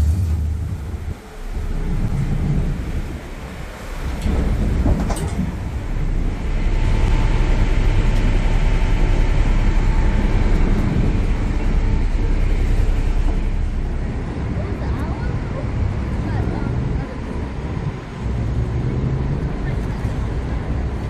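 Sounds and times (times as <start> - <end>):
ferry engines rumbling: 0.0 - 21.0
water churning: 0.0 - 21.0.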